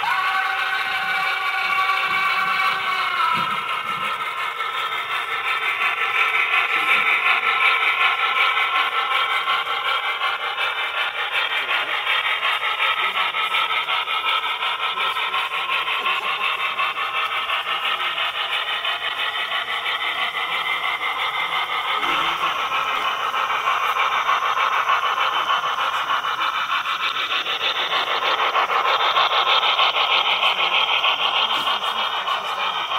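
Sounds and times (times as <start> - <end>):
model train wheels rolling on rails: 0.0 - 32.9.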